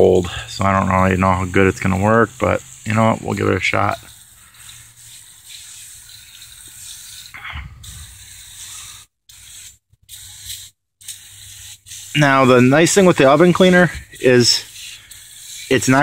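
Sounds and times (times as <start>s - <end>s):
aerosol can spraying hiss: 0.9s - 16.0s.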